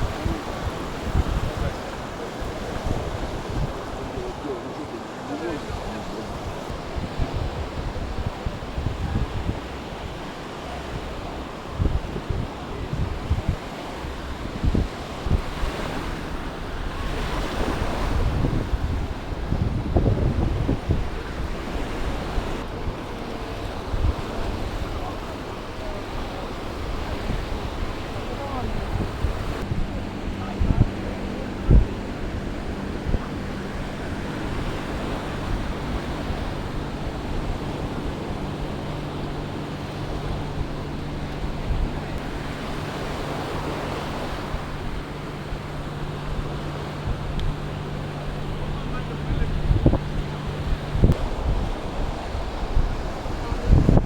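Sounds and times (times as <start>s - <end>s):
sea waves washing ashore: 0.0s - 54.0s
steady low hum: 0.0s - 54.0s
wind buffeting microphone: 0.0s - 54.0s.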